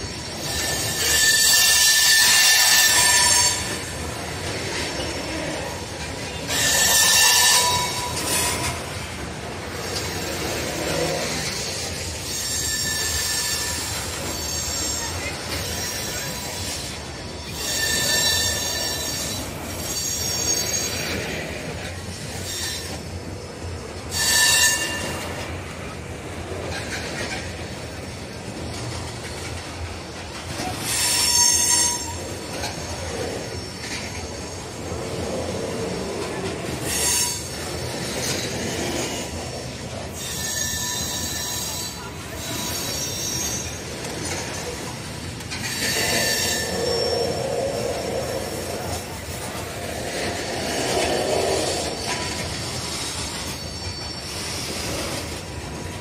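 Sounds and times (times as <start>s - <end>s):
high-pitched steel wheel squeal: 0.0s - 9.0s, 9.7s - 23.1s, 24.1s - 25.9s, 30.6s - 56.0s
freight train wheels rumbling on rails: 0.0s - 56.0s.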